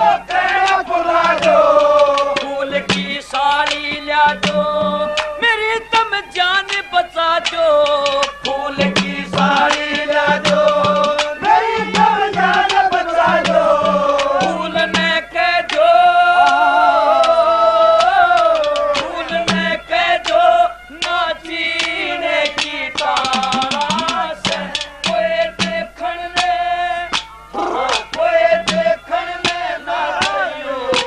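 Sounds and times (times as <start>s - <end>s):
drum strokes: 0.0s - 5.4s, 7.4s - 15.8s, 18.0s - 31.0s
man singing folk song: 0.0s - 16.9s, 17.6s - 31.0s.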